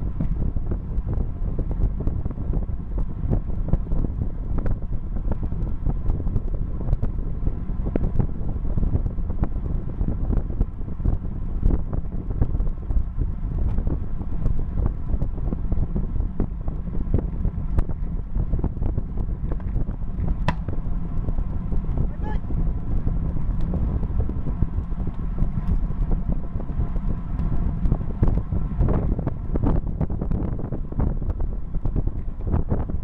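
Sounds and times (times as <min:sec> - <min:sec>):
bike clicks and rattles: 0:00.0 - 0:33.0
wind buffeting microphone: 0:00.0 - 0:33.0.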